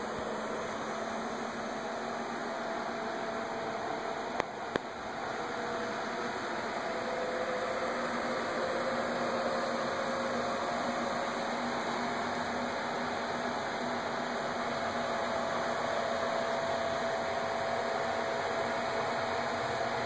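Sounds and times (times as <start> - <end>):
cooling fans whirring: 0.0 - 20.0.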